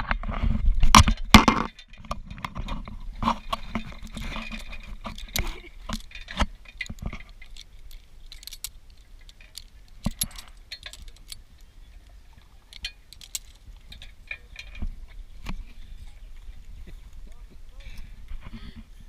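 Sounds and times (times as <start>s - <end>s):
metal carabiners clinking: 1.0s - 18.4s.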